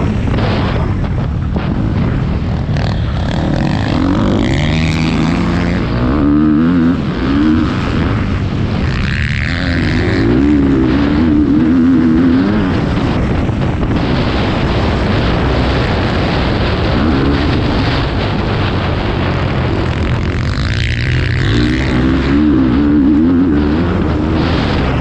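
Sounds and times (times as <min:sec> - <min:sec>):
loud steady rushing noise: 0:00.0 - 0:25.0
motocross bike engine revving: 0:00.0 - 0:25.0.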